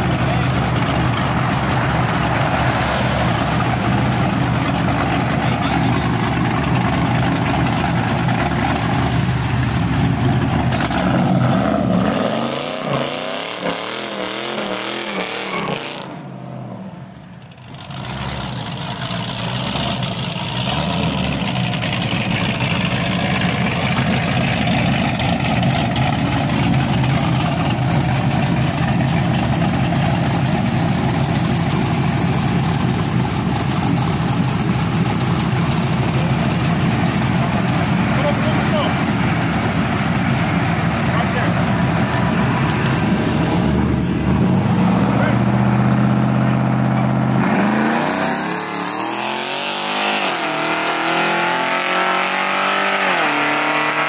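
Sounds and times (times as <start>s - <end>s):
car engine idling loudly: 0.0s - 12.0s, 16.8s - 48.1s
car engines revving and accelerating: 0.0s - 54.0s.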